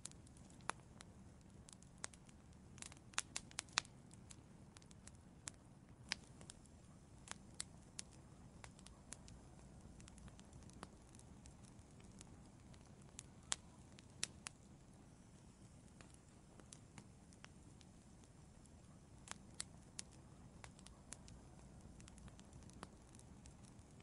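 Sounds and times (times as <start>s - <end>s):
faint low rumble: 0.0s - 24.0s
sharp pops of fire: 0.0s - 24.0s
wood fire crackling: 0.0s - 24.0s.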